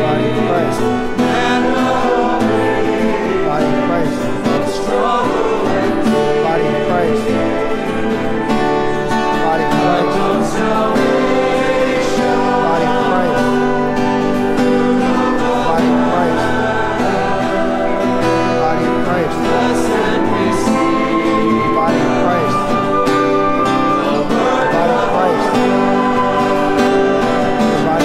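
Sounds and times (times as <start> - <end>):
congregation singing a hymn: 0.0 - 28.0
guitar accompaniment: 0.0 - 28.0.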